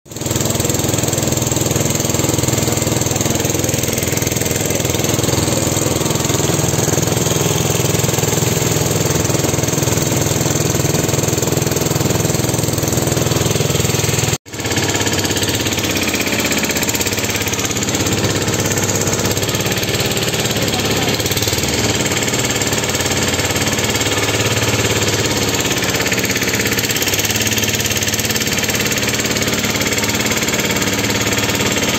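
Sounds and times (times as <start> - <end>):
motorboat engine running: 0.1 - 31.9.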